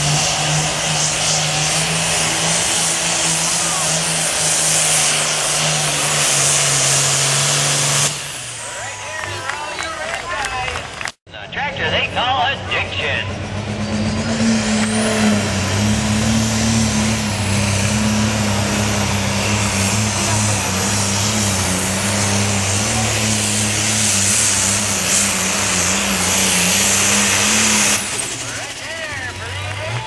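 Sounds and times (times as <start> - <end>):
tractor diesel engine running hard: 0.0 - 30.0.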